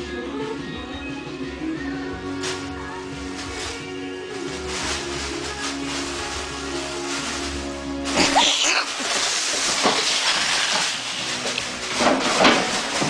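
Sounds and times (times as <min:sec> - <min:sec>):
background music: 0:00.0 - 0:13.0
plastic bag crinkling: 0:02.3 - 0:13.0.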